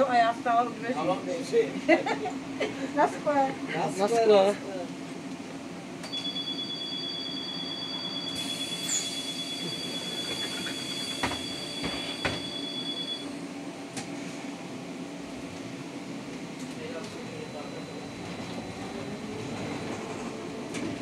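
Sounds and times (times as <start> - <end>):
trolleybus low hum: 1.7 - 3.9, 4.5 - 21.0.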